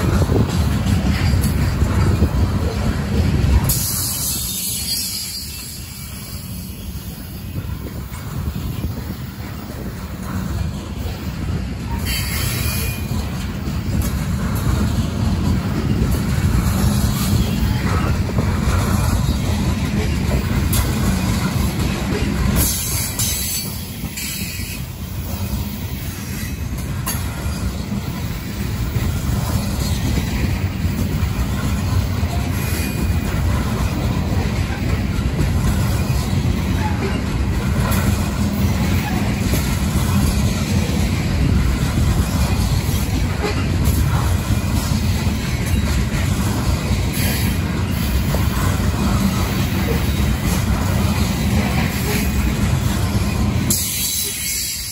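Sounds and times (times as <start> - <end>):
wheels clacking over rail joints: 0.0 - 6.6, 7.4 - 54.9
freight train wheels rumbling: 0.0 - 54.9.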